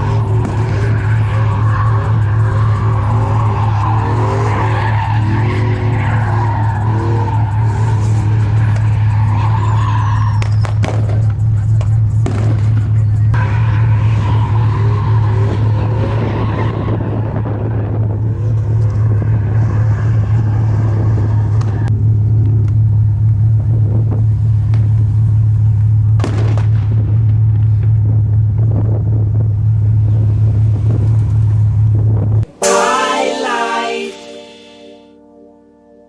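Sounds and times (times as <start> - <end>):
truck engine rumble: 0.0 - 32.7.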